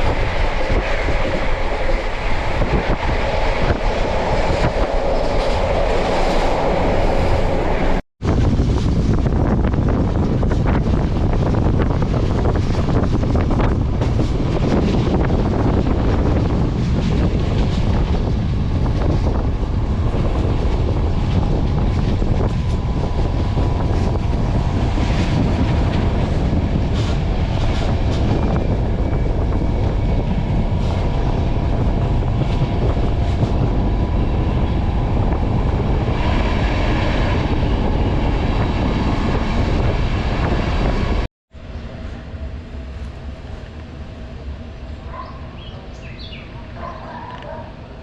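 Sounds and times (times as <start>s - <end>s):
train wheels rumbling on track: 0.0s - 48.0s.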